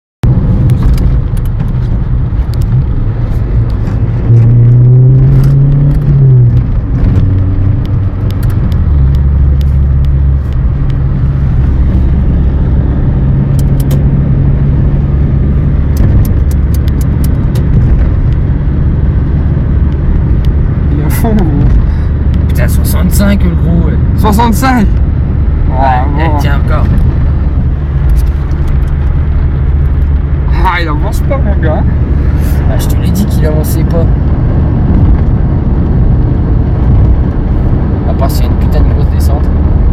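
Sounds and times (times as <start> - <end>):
car engine and road drone: 0.2 - 39.9.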